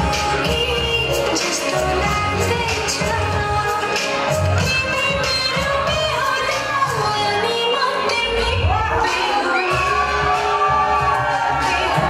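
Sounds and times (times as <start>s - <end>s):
dance song with singing: 0.0s - 12.0s.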